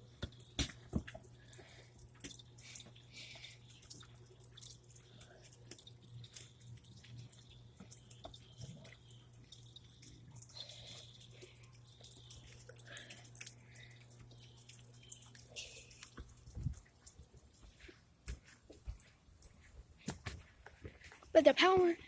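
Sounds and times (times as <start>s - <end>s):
faint low hum: 0.0s - 22.0s
rainwater dripping: 0.0s - 22.0s.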